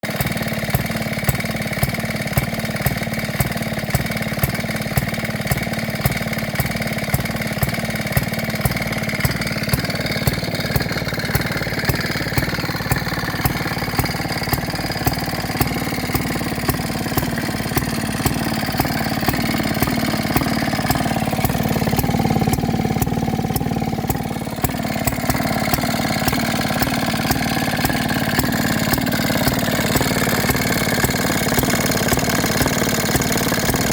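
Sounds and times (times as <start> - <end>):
stationary gas engine running: 0.0 - 33.9.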